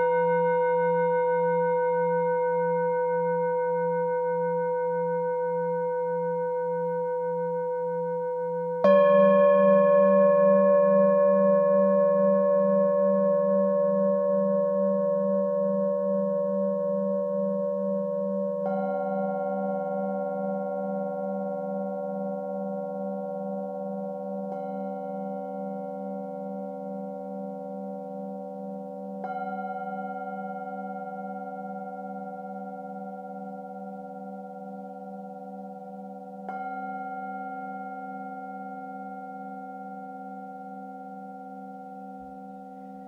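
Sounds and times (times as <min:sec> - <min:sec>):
singing bowls ringing: 0:00.0 - 0:43.0.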